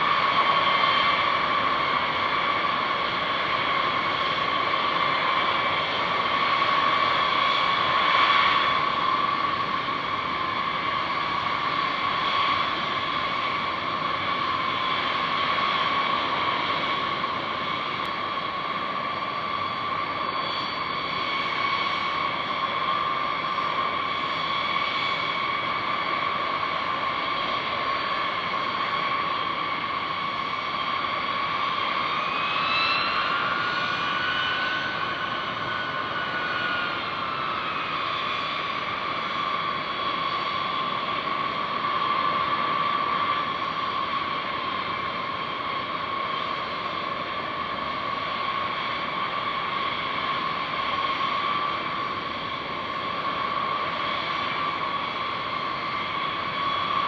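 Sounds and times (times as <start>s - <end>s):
engine whine rising in pitch: 0.0s - 57.0s
jet engines whining: 0.0s - 57.0s.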